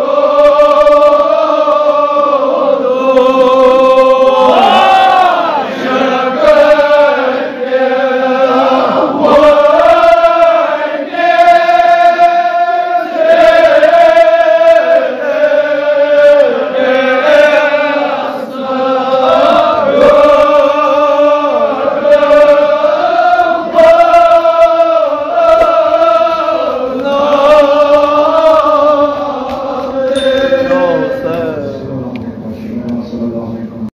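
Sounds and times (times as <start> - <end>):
men chanting: 0.0 - 31.9.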